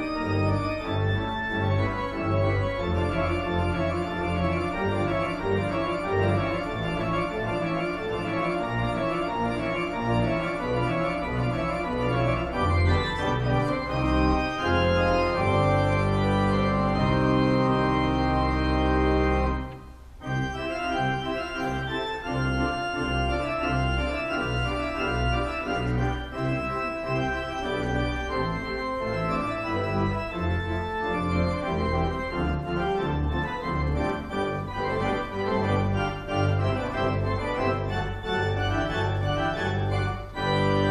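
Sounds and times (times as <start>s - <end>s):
church organ chords: 0.0s - 40.9s.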